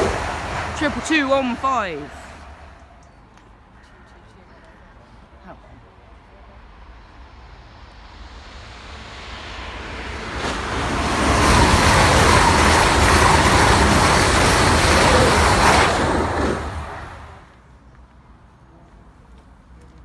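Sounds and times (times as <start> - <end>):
passenger train passing at speed: 0.0 - 17.8.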